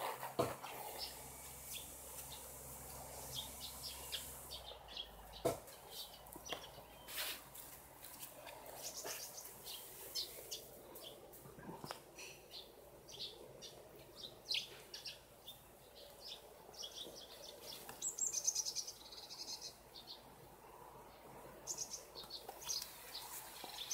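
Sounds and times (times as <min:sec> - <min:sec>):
small birds chirping: 0:00.4 - 0:23.9.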